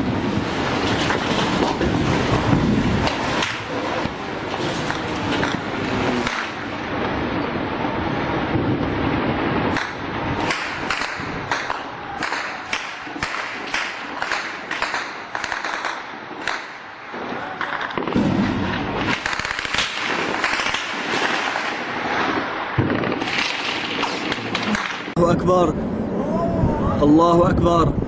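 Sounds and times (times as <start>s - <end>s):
deep explosion rumble: 0.0s - 14.2s, 17.1s - 28.0s
explosions cracking and popping: 0.0s - 25.2s.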